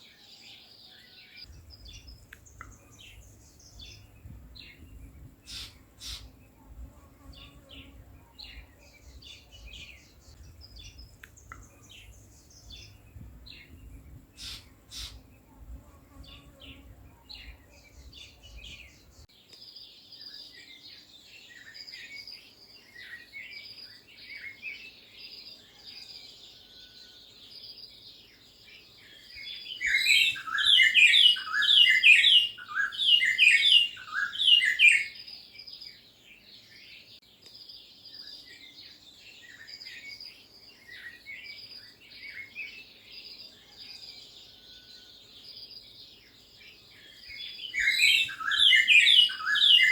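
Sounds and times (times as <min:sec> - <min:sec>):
wild birds chirping: 0:00.0 - 0:49.9.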